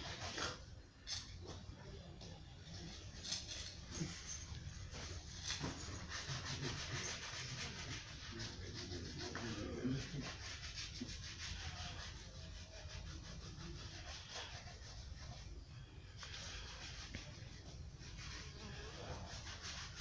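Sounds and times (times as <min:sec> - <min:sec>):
scratchy rubbing of shoe polish: 0:02.6 - 0:20.0.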